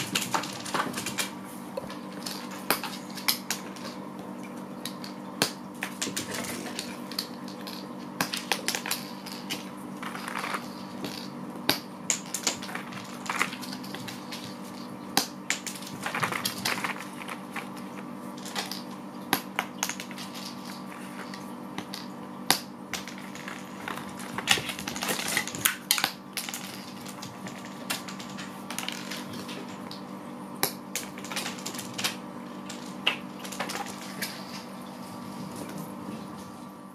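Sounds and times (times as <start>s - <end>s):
game pieces clicking and clattering: 0.0s - 4.0s, 4.8s - 30.0s, 30.6s - 34.7s
steady hum: 0.0s - 36.9s.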